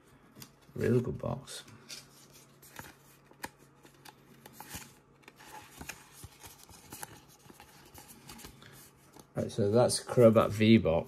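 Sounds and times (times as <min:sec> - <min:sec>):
trading cards rustling: 0:00.3 - 0:09.5.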